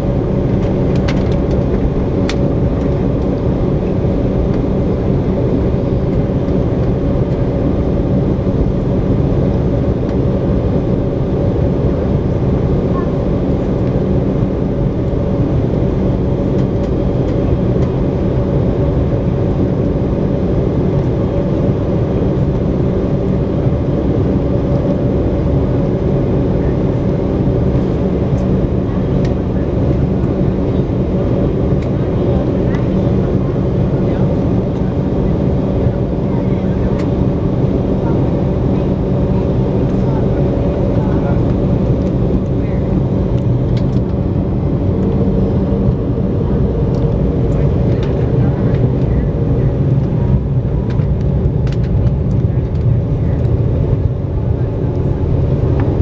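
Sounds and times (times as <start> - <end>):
jet engines droning in cabin: 0.0 - 56.0.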